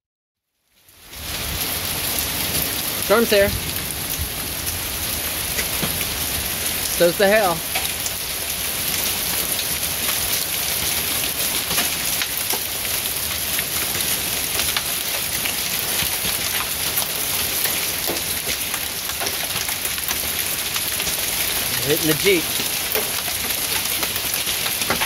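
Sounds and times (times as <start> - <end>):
hailstones ticking on concrete: 1.0 - 25.0
heavy rain hissing: 1.0 - 25.0.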